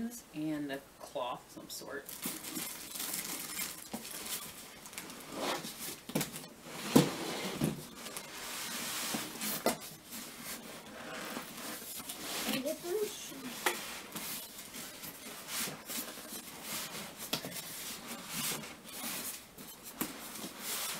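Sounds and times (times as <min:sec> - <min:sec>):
cardboard and paper rustling: 0:02.1 - 0:20.9.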